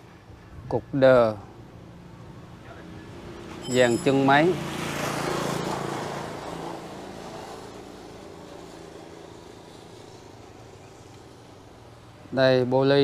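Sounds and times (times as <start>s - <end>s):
passing vehicle engine hum: 1.4s - 12.3s.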